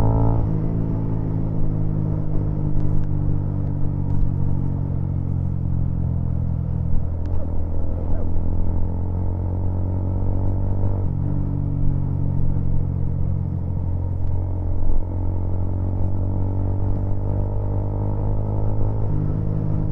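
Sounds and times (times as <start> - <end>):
muffled vehicle engine running: 0.0 - 19.9.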